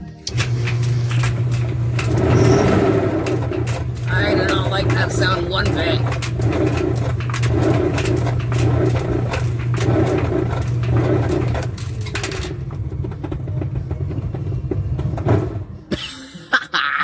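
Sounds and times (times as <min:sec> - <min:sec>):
rhythmic pulsing noise: 0:00.0 - 0:16.0
clothes dryer humming: 0:00.0 - 0:16.5.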